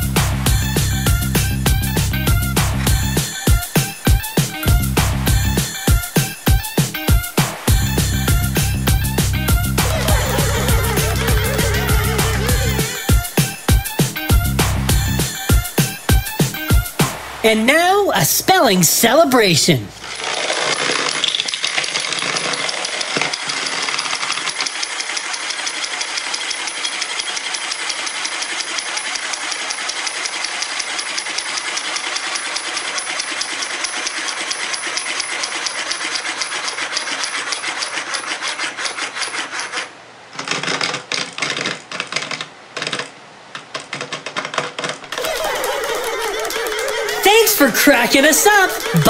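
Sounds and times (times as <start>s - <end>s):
wind-up toys clockwork buzzing: 0.5s - 16.9s, 20.0s - 39.9s, 45.1s - 49.0s.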